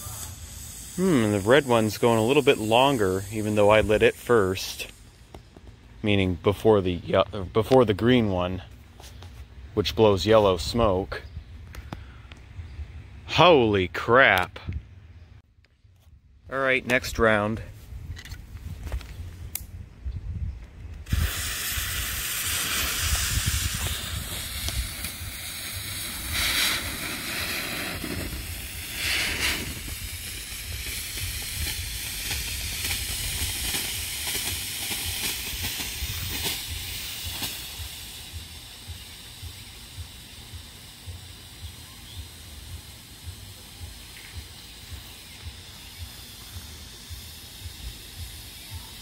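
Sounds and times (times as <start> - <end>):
smoke fireworks hissing: 0.0 - 12.2, 21.0 - 49.0.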